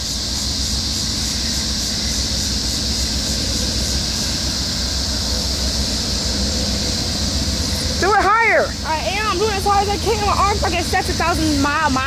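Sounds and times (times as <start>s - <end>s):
freight train rumbling past: 0.0s - 12.0s
wheels hissing on rail: 0.0s - 12.0s.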